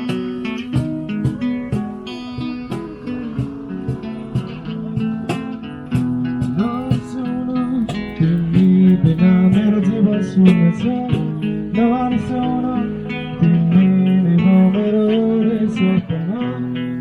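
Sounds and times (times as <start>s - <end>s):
plucked guitar notes: 0.0s - 17.0s.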